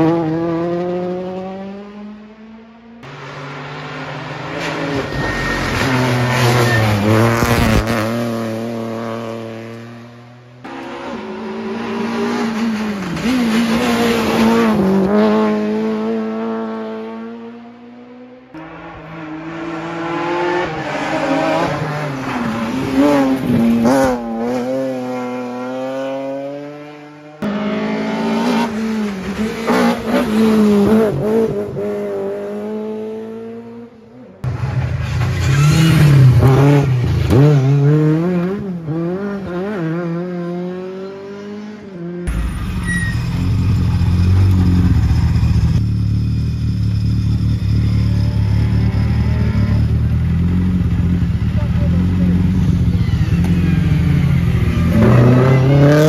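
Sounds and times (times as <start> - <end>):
rally car engines revving hard: 0.0 - 45.8, 46.5 - 56.0.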